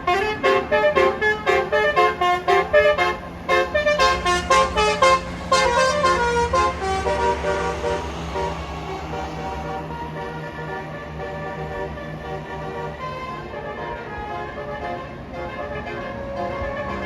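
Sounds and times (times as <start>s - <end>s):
bus multi-tone horn tune: 0.0s - 17.0s
low engine hum: 0.0s - 17.0s.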